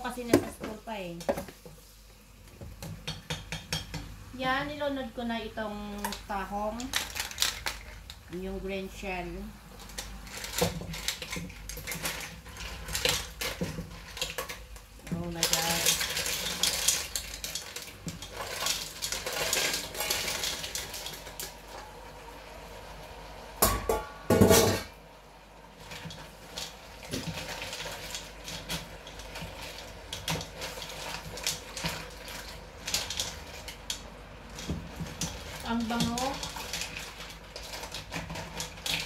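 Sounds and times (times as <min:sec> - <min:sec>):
utensil stirring mussels in pot: 0:00.0 - 0:04.4, 0:05.7 - 0:23.5, 0:25.6 - 0:39.0.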